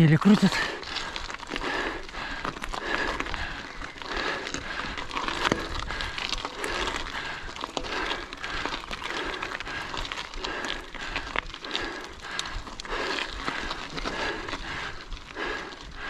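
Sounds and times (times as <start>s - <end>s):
cyclist breathing hard: 0.3s - 16.0s
bicycle clicks: 0.5s - 16.0s.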